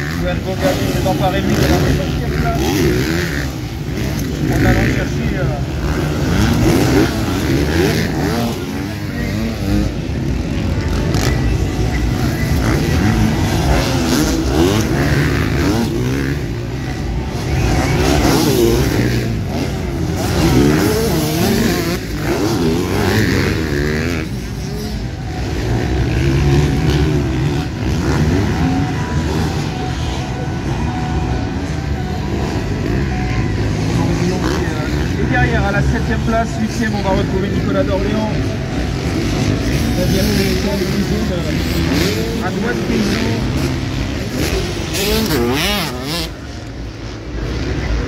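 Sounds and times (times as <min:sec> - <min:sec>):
motocross bikes revving: 0:00.0 - 0:48.0.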